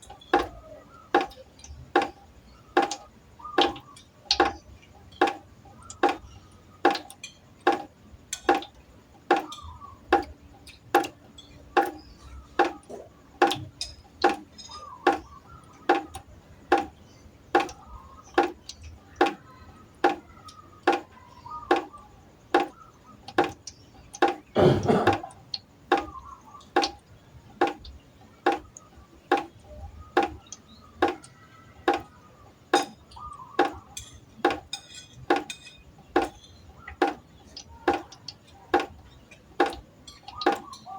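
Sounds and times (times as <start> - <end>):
water drops plinking into pot: 0.0 - 40.9.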